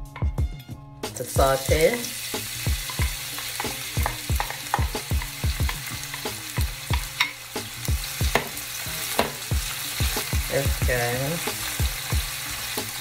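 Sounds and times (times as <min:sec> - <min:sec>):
vegetables sizzling: 0:01.1 - 0:13.0.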